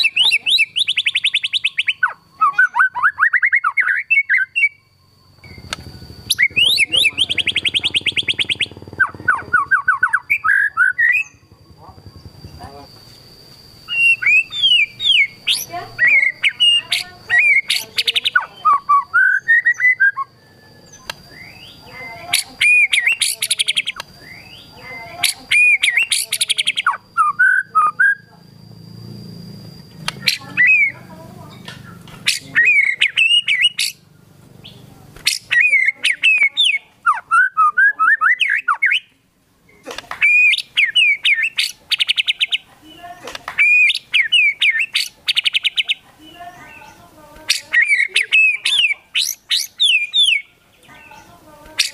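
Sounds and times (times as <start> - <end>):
bird singing whistles and chirps: 0.0 - 13.2, 13.8 - 28.3, 30.0 - 39.2, 40.1 - 51.9.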